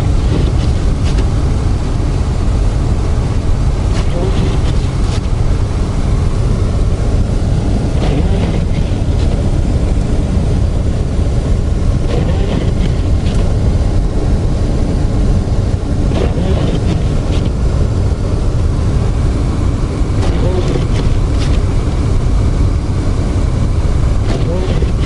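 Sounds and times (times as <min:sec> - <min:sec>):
car cabin rumble: 0:00.0 - 0:25.0.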